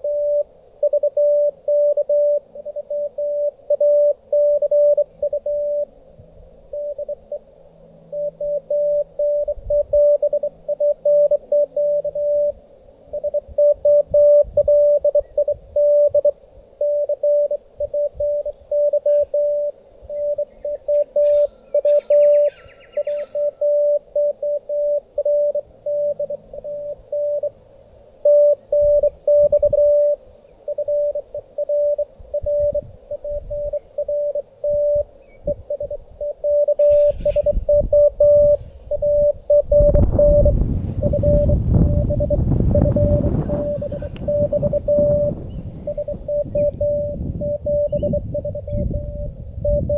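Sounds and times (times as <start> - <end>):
morse code tone: 0.0 - 5.9, 6.7 - 27.6, 28.2 - 49.9.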